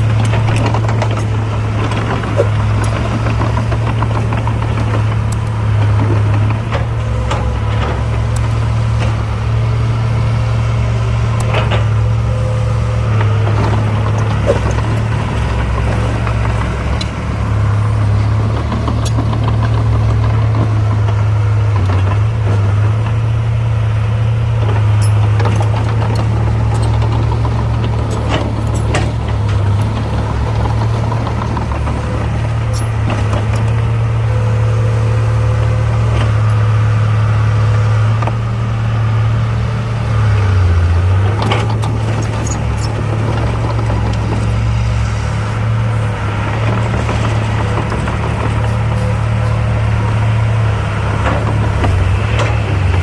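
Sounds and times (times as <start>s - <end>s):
diesel machinery engine hum: 0.0s - 53.0s.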